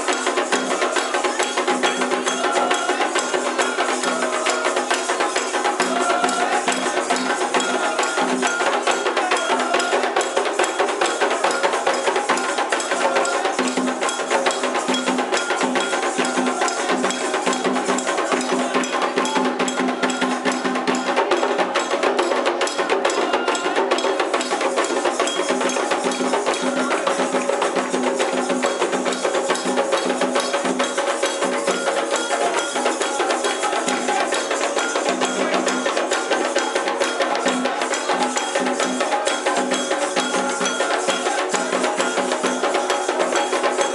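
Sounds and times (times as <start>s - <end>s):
fast percussion drumming: 0.0s - 43.9s.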